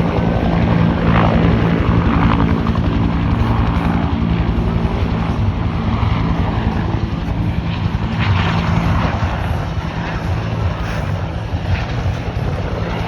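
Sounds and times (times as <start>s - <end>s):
aircraft propeller drone: 0.0s - 13.0s.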